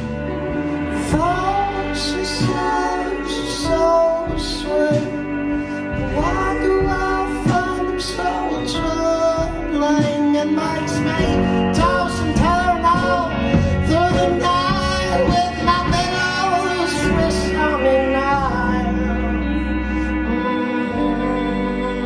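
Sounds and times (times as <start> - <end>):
drums and bass: 0.0 - 22.0.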